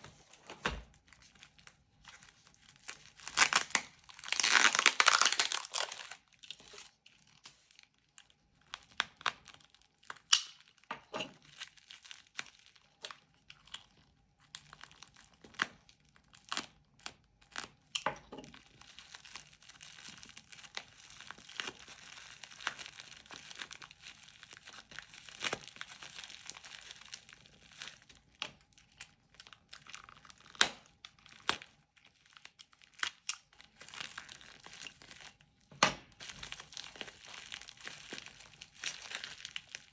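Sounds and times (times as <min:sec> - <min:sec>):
packaging crinkling and rustling: 0:00.0 - 0:39.9.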